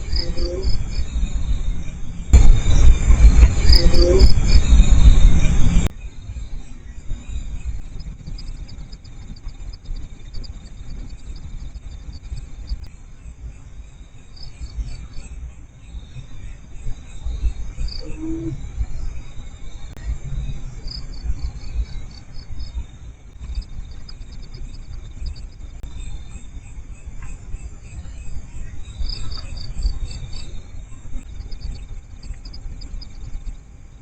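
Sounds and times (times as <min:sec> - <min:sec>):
crickets trilling: 0:00.0 - 0:34.0
low rumble: 0:00.0 - 0:34.0.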